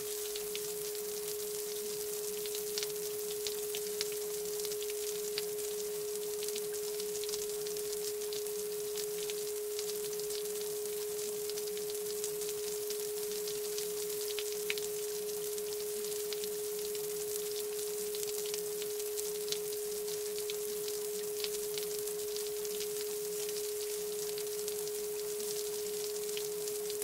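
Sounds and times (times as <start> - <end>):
crackling hiss with ticks: 0.0 - 27.0
faint pulsing hum: 0.0 - 27.0
steady sine tone: 0.0 - 27.0.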